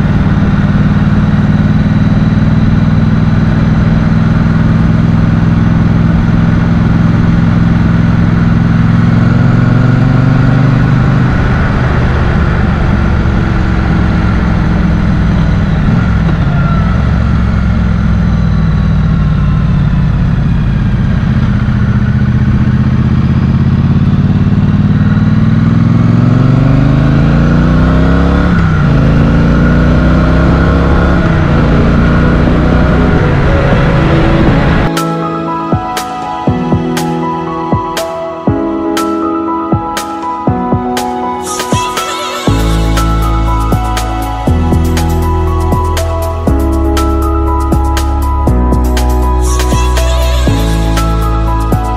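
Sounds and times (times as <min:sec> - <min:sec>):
motorcycle engine running: 0:00.0 - 0:35.0, 0:42.5 - 0:51.9.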